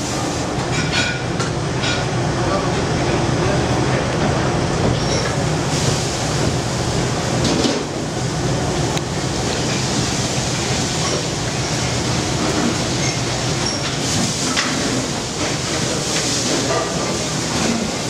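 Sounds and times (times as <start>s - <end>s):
kitchen range and extraction noise: 0.0s - 18.0s.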